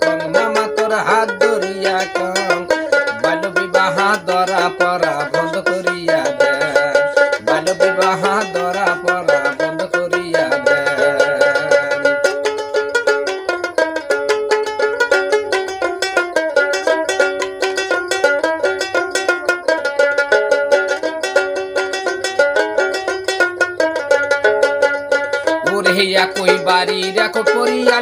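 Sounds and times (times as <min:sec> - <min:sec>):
plucked string instrument melody: 0:00.0 - 0:28.0.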